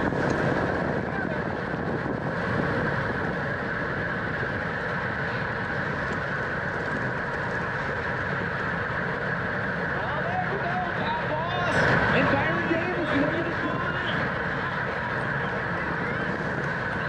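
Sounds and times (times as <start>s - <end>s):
bike tyre and drivetrain hum: 0.0s - 17.0s
wind on microphone: 0.0s - 17.0s.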